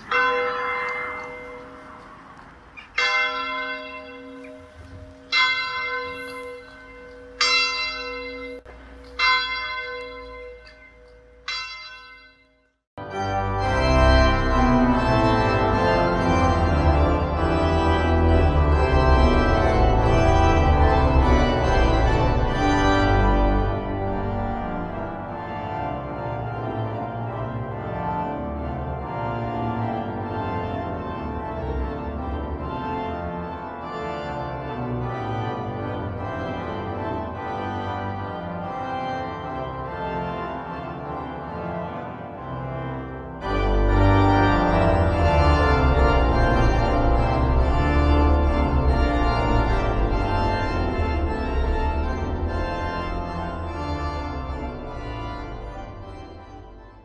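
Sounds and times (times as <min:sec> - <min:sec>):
organ music with sustained chords: 0:00.0 - 0:11.8, 0:13.0 - 0:57.0
church bell tolling: 0:00.0 - 0:57.0.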